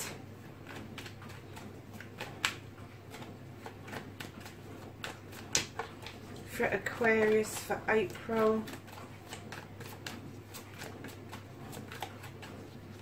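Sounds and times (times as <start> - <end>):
cards shuffling: 0.6 - 13.0.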